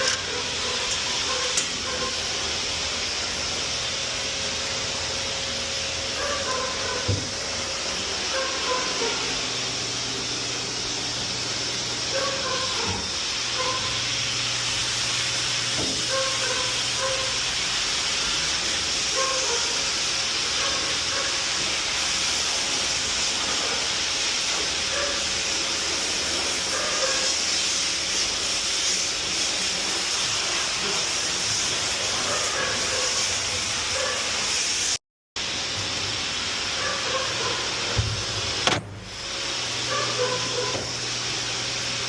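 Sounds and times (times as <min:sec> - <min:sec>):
hissing rush of grooming equipment: 0:00.0 - 0:42.0.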